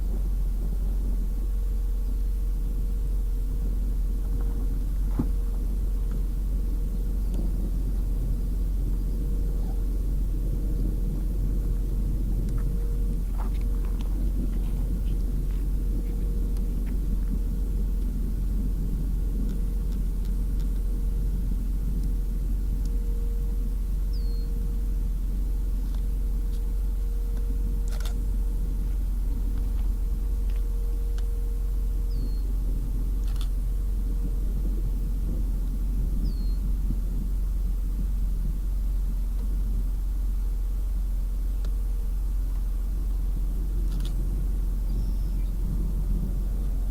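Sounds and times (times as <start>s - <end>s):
car road rumble: 0.0s - 46.9s
faint steady whine: 0.0s - 46.9s.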